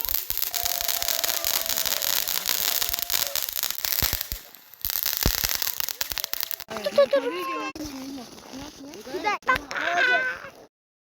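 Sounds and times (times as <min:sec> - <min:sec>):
firework fountain hissing: 0:00.0 - 0:10.7
rapid crackling pops: 0:00.0 - 0:10.7.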